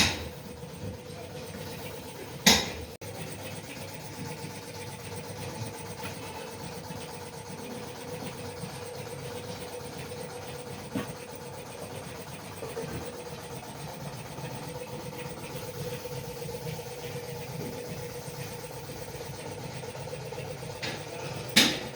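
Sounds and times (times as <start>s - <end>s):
mechanical hum of motor: 0.0s - 21.9s.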